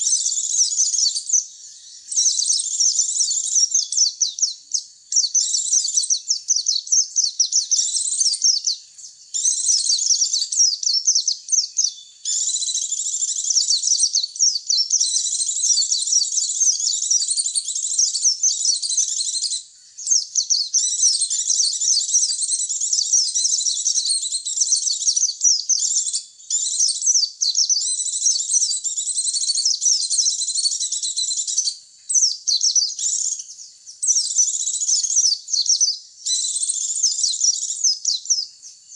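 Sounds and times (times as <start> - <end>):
bird twittering chirps: 0.0 - 38.9.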